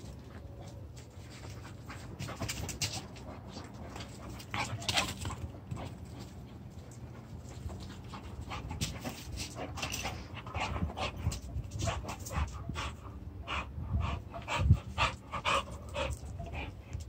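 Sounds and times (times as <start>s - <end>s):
dog panting: 1.4s - 17.0s.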